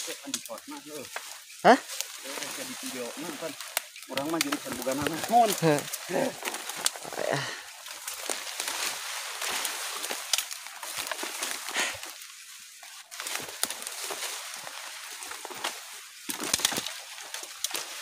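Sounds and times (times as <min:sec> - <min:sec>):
leaf litter crackling underfoot: 0:00.0 - 0:18.0.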